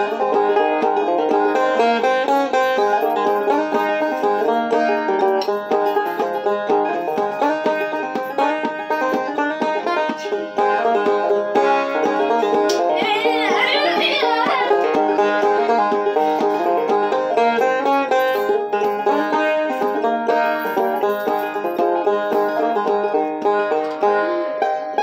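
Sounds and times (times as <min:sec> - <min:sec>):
banjo plucked notes: 0:00.0 - 0:25.0.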